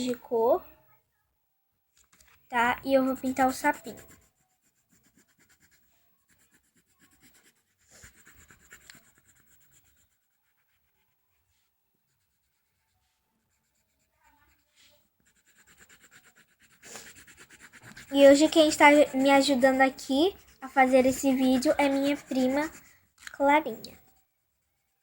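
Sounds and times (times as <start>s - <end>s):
colored pencil scratching on paper: 2.2s - 25.0s.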